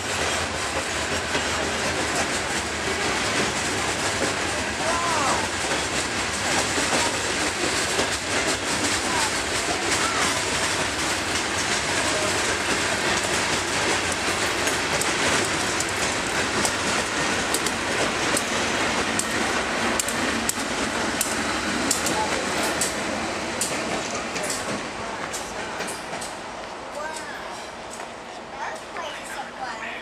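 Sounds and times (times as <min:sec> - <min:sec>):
steel wheels rolling on rail: 0:00.0 - 0:30.0.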